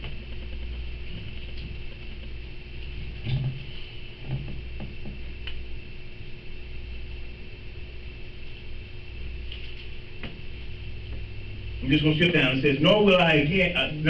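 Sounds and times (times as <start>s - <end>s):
faint high whine: 0.0s - 14.0s
low hum: 0.0s - 14.0s.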